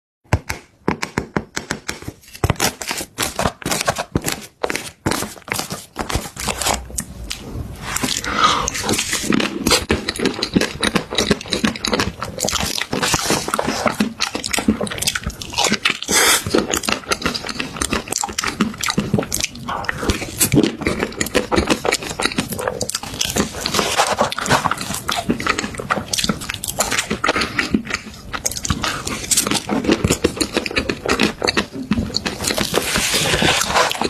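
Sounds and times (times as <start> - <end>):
crunchy chewing: 2.6 - 34.0.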